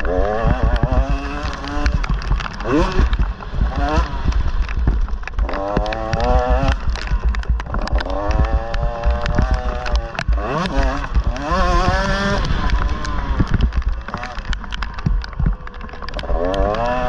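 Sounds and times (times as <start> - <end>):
engine revving: 0.0 - 4.5, 5.3 - 14.8, 16.0 - 17.0
low wind rumble: 0.0 - 17.0
sharp knocks from rough ground: 0.0 - 17.0.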